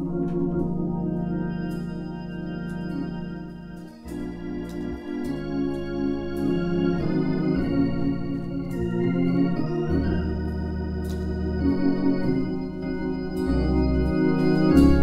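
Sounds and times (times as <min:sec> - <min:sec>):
organ playing a hymn: 0:00.0 - 0:15.0.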